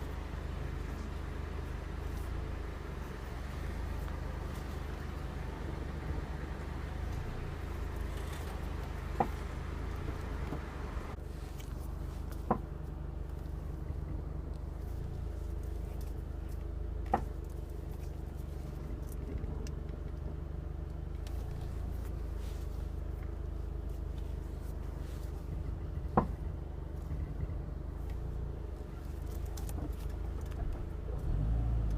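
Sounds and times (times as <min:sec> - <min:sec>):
car low hum: 0:00.0 - 0:31.9
suspension clunks: 0:00.0 - 0:31.9.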